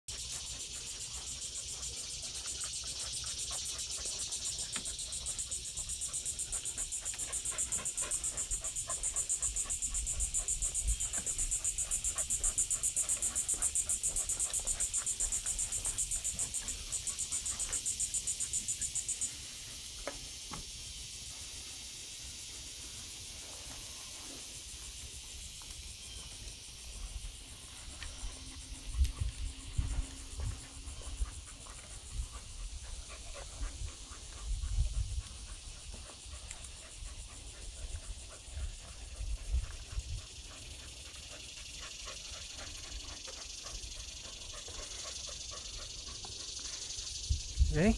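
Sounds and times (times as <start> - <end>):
insects singing in pulsing chorus: 0.1 - 47.9.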